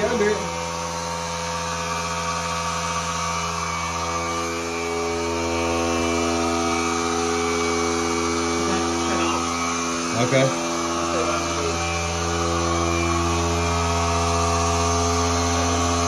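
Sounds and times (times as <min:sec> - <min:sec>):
motor humming drone: 0:00.0 - 0:16.0.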